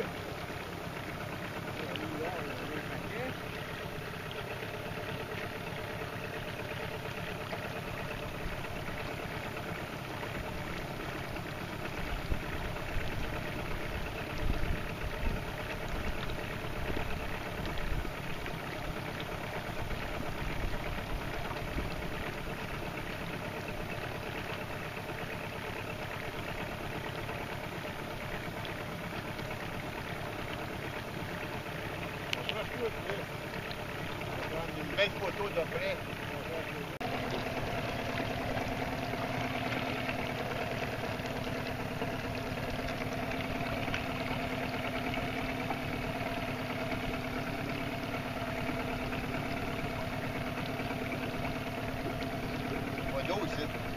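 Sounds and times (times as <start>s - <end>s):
outboard motor idling: 0.0s - 53.9s.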